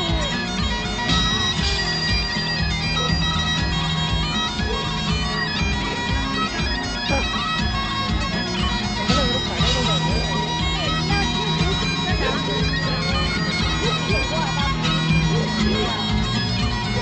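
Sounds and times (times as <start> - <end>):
bagpipe music over loudspeaker: 0.0 - 17.0.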